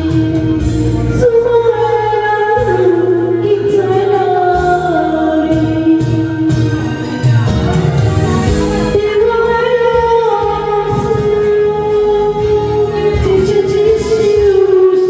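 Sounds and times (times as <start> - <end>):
person singing karaoke: 0.0 - 15.0
pop backing track: 0.0 - 15.0.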